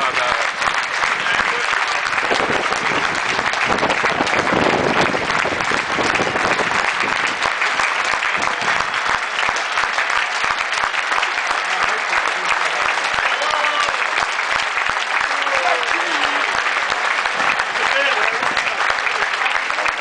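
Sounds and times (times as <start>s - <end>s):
crowd clapping: 0.0s - 20.0s
crowd voices: 0.0s - 20.0s.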